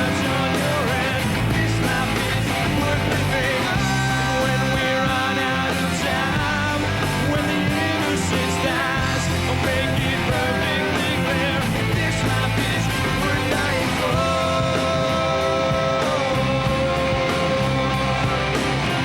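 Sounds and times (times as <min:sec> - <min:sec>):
electric guitar: 0:00.0 - 0:19.0
pop-rock band playing: 0:00.0 - 0:19.0.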